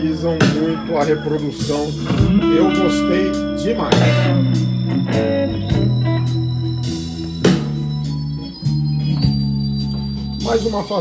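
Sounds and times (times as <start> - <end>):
held chords music: 0.0 - 11.0.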